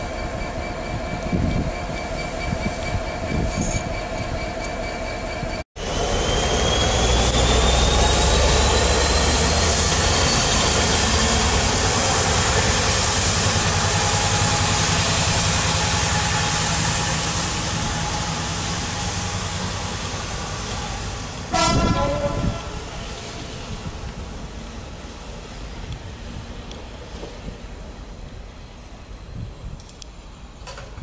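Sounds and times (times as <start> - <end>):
diesel locomotive engine running: 0.0 - 30.7.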